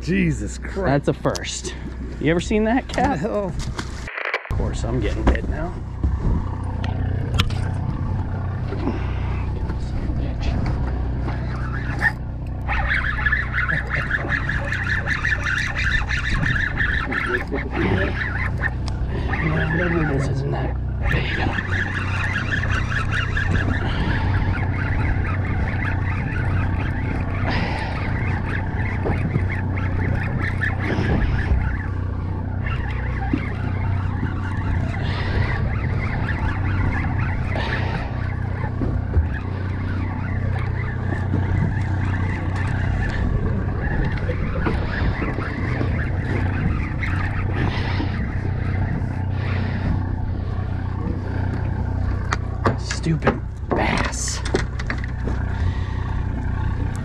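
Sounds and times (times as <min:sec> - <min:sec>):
boat engine hum: 0:00.0 - 0:57.0
water noise: 0:00.0 - 0:57.0
wind: 0:00.0 - 0:57.0
honking bird calls: 0:11.3 - 0:57.0.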